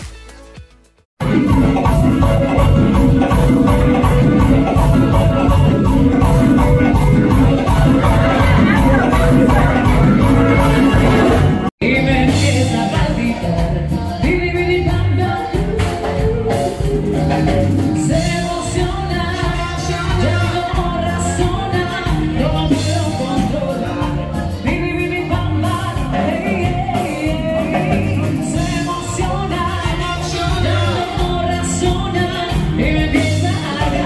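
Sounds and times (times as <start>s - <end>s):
upbeat song with singing: 1.2s - 34.0s.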